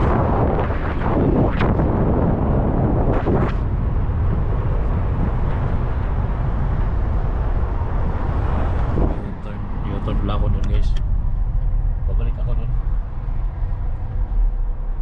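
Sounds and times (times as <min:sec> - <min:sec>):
car engine and road noise: 0:00.0 - 0:15.0
wind noise rush: 0:00.0 - 0:15.0.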